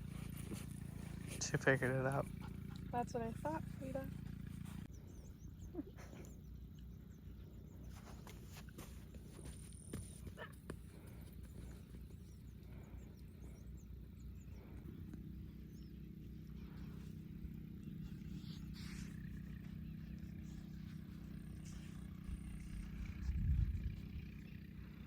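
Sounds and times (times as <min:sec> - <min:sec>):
low motor hum: 0:00.0 - 0:25.0
outdoor background noise: 0:00.0 - 0:25.0.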